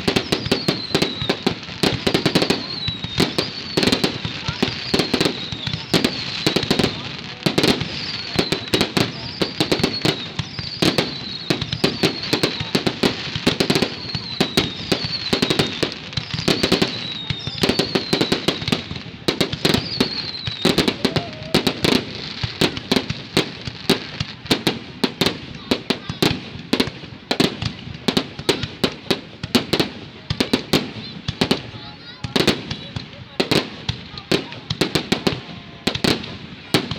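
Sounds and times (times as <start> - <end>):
fireworks bangs and crackling: 0.0 - 36.9.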